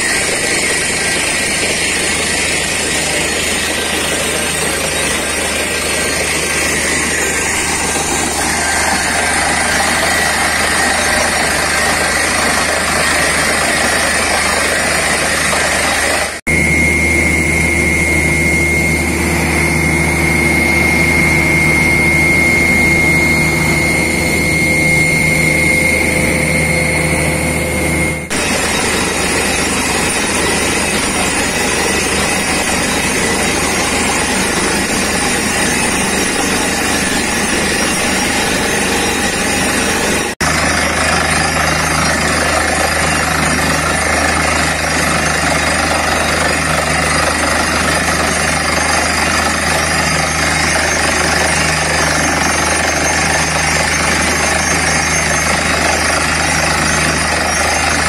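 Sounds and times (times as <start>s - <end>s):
compressor high whine: 0.0s - 58.0s
drilling rig engine hum: 0.0s - 58.0s.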